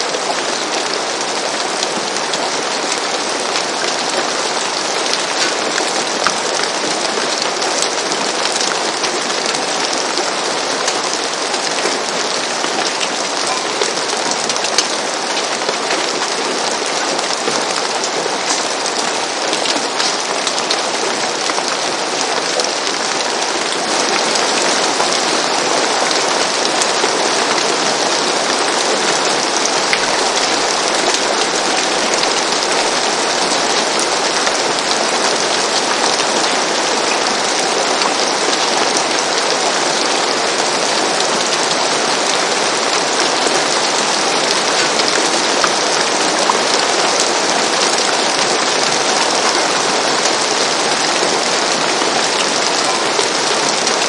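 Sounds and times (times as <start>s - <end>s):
rain on a roof: 0.0s - 54.0s
raindrops ticking: 0.0s - 54.0s.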